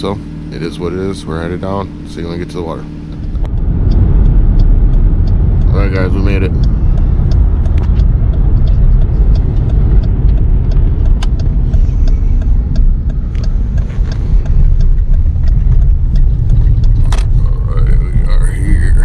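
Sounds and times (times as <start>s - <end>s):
car low rumble: 0.0s - 19.0s.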